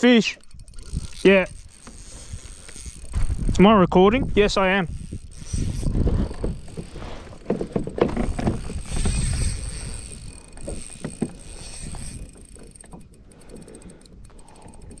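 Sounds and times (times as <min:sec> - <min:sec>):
fishing reel winding rumble: 0:00.0 - 0:15.0.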